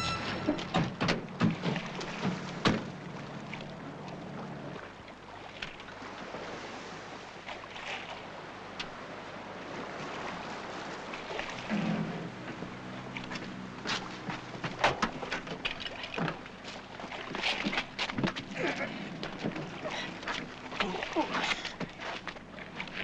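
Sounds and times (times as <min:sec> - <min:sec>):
wind and water rushing: 0:00.0 - 0:23.0.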